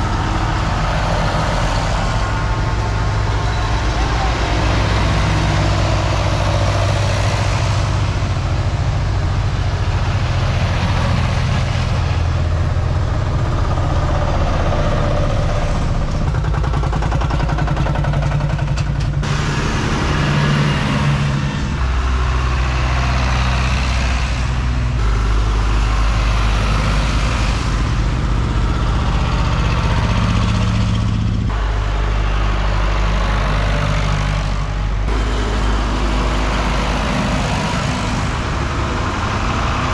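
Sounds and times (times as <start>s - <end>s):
tractors driving past: 0.0s - 39.9s.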